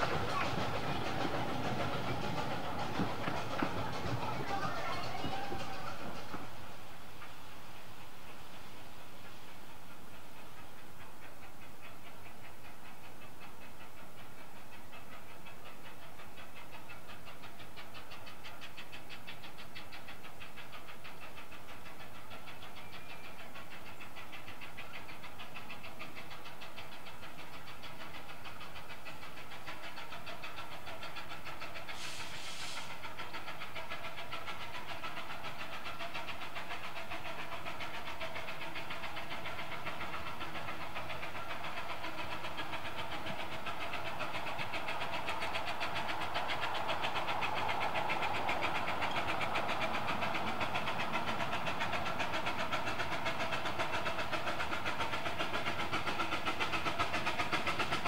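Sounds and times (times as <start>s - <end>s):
steam hissing: 0.0s - 58.0s
steam locomotive exhaust beating: 0.0s - 58.0s.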